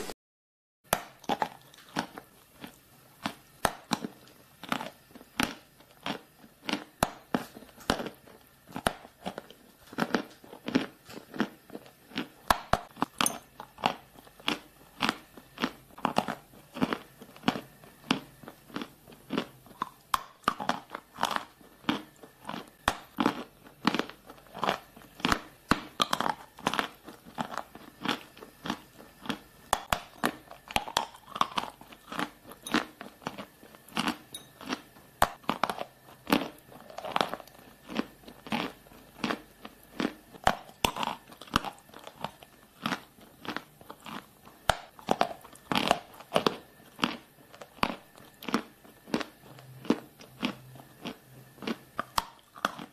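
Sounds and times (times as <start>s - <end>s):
crisp crunching while chewing: 0.9s - 52.9s.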